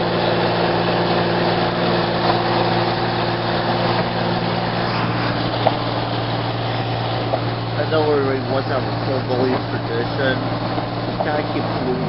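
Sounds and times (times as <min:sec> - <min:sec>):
car engine hum: 0:00.0 - 0:12.0
tyre and road noise: 0:00.0 - 0:12.0.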